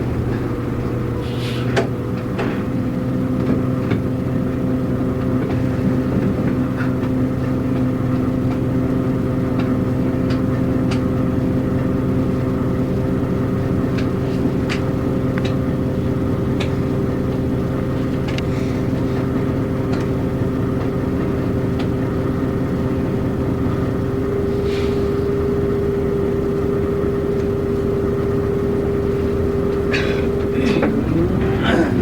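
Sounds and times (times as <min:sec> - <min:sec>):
bus diesel engine hum: 0:00.0 - 0:32.0.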